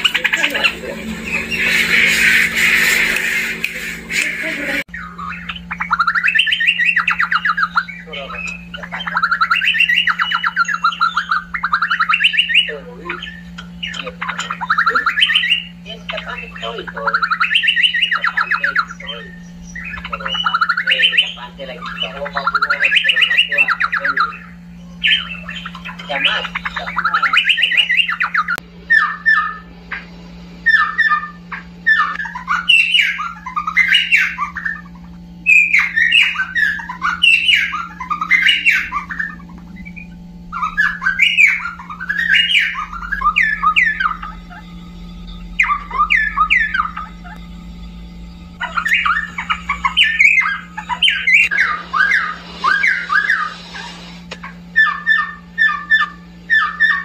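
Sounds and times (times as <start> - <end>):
steady low hum: 0.0 - 57.0
bird singing whistled notes: 4.1 - 29.7, 30.6 - 34.8, 35.4 - 48.0, 48.6 - 57.0.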